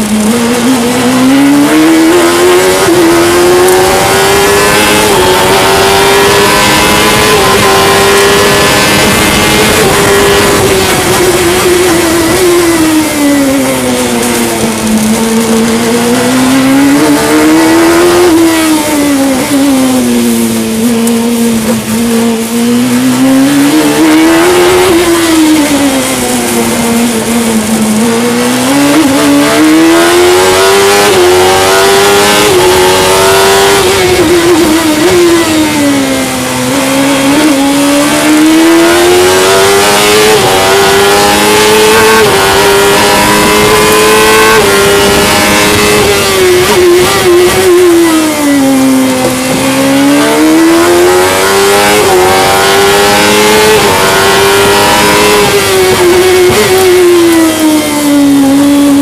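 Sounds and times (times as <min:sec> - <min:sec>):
racing car engine revving: 0:00.0 - 0:59.0
wind noise rushing: 0:00.1 - 0:59.0.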